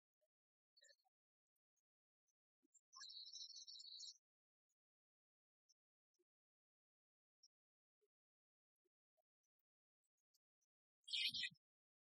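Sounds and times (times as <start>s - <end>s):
faint high-pitched chirping: 0.2s - 12.0s.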